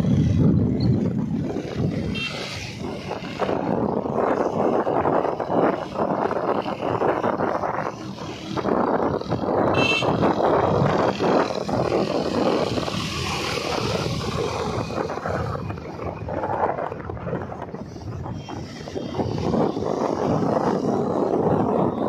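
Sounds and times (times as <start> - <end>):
engine and road noise: 0.0 - 22.0
wind rushing over microphone: 0.0 - 22.0.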